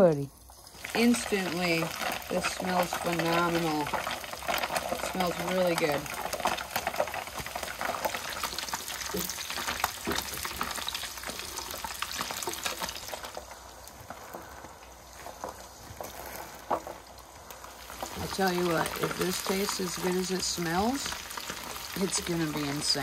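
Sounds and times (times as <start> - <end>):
fish deep-frying in oil: 0.0 - 23.0.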